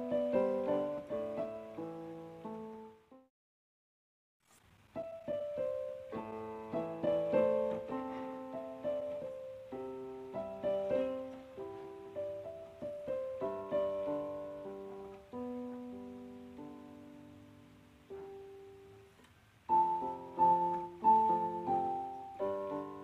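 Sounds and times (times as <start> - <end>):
slow calm piano piece: 0.0 - 3.3, 4.8 - 23.0.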